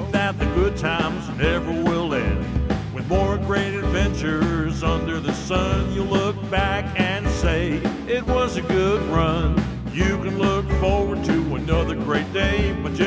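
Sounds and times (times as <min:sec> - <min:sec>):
country song: 0:00.0 - 0:13.0.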